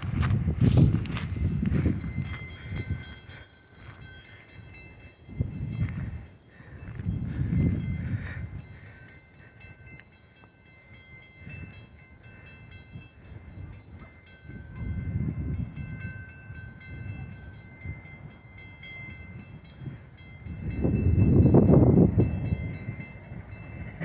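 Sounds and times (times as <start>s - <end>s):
crossing warning bells ringing: 0.0s - 24.0s
distant train rumbling: 0.0s - 24.0s.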